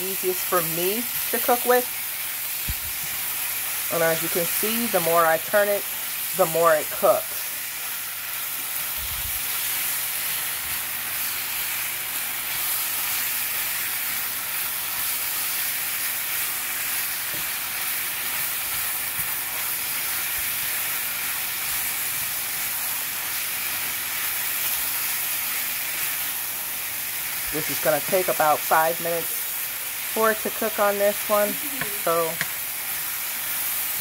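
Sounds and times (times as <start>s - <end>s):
meat sizzling in a frying pan: 0.0s - 34.0s.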